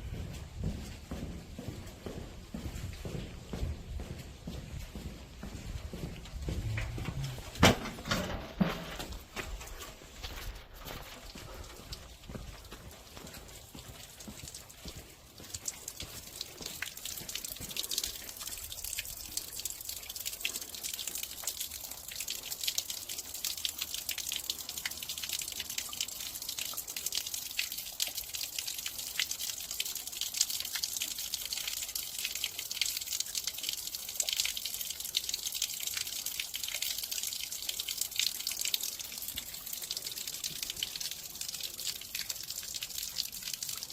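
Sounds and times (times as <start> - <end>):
small drips and splashes: 0.0 - 43.9
water trickling through drain line: 0.0 - 43.9.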